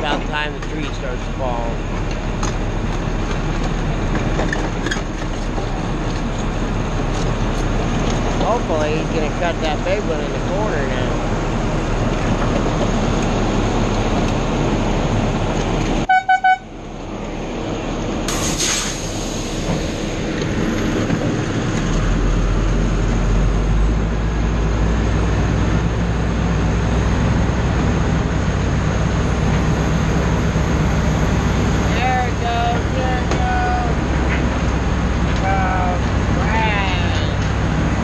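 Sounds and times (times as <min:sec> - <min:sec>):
engine rumble: 0:00.0 - 0:38.0.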